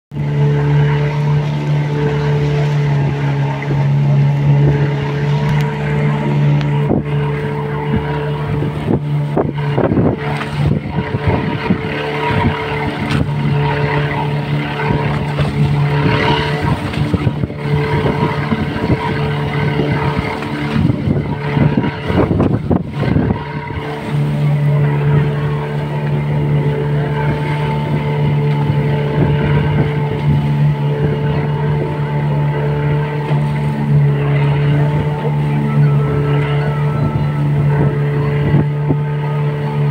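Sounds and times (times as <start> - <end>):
boat motor humming: 0.1 - 39.9
water splashing along hull: 0.1 - 39.9
buffeting: 0.2 - 39.9.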